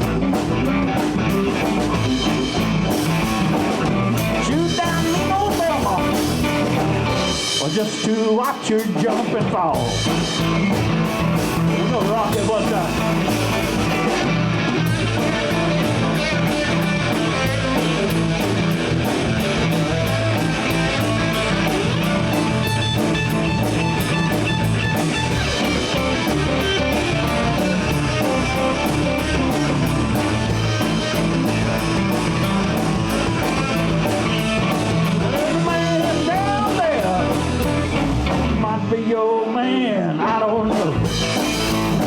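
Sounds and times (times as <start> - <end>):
sliding guitar notes: 0.0 - 7.6, 9.9 - 38.9
electric blues band playing: 0.0 - 42.0.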